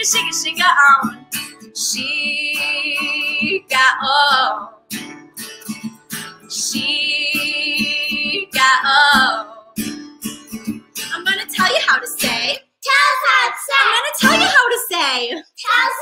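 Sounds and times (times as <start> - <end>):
acoustic guitar strumming: 0.0 - 12.6, 14.1 - 14.8.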